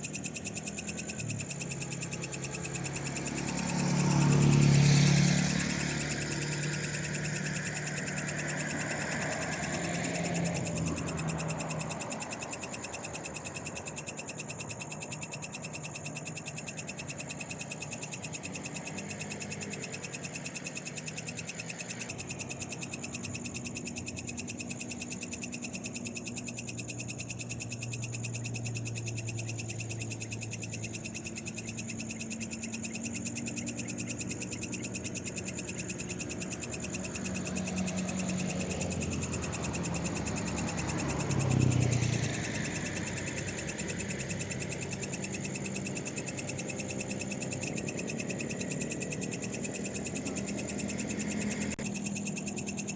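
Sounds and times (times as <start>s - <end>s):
frogs calling: 0.0s - 52.9s
insects trilling: 0.0s - 52.9s.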